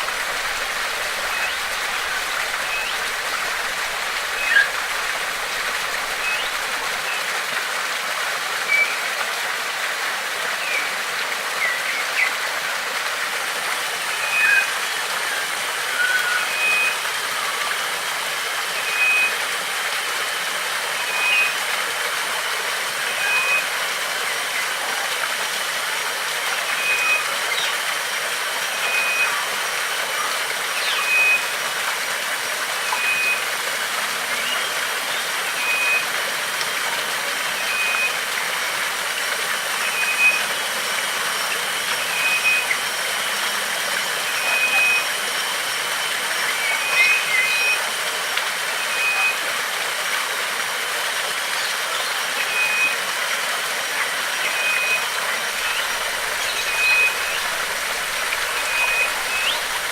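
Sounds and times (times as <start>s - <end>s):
rushing stream: 0.0s - 59.9s.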